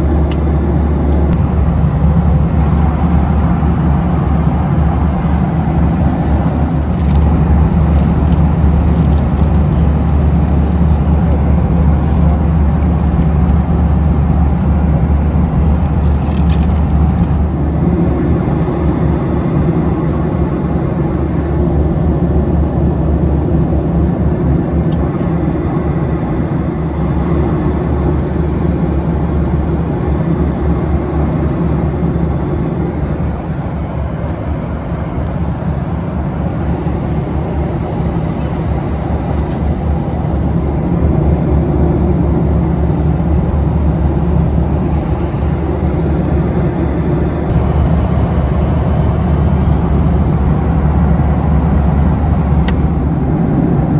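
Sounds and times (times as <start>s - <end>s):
airflow rushing over fuselage: 0.0s - 53.9s
jet engines droning: 0.0s - 53.9s.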